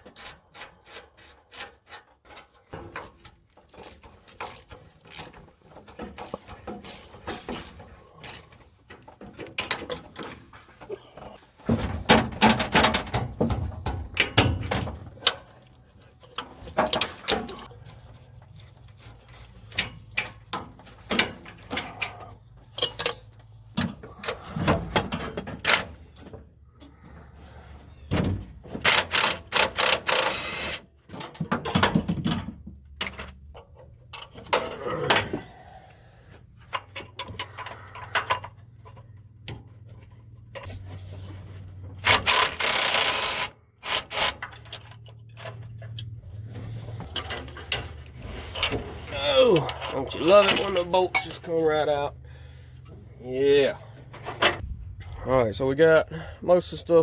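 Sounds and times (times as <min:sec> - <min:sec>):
tools and metal parts clanking: 0:00.0 - 0:55.3.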